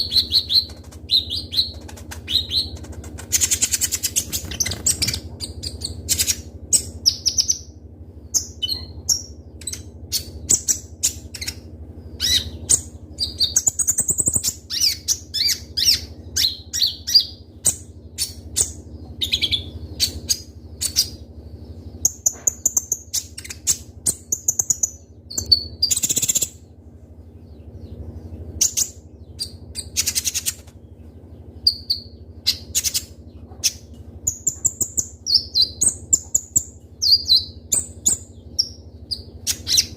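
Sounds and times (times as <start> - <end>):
faint low hum: 0.0 - 39.9
sunbird singing: 0.0 - 39.9.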